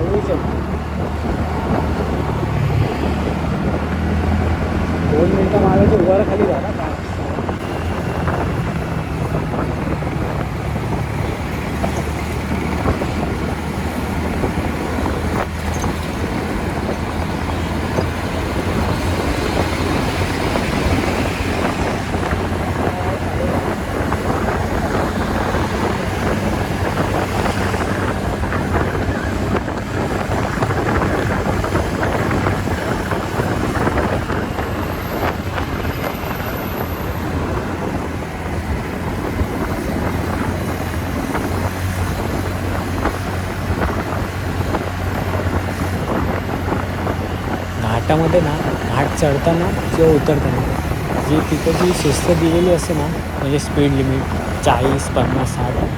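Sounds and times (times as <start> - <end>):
scooter engine drone: 0.0 - 55.9
wind rushing over microphone: 0.0 - 55.9.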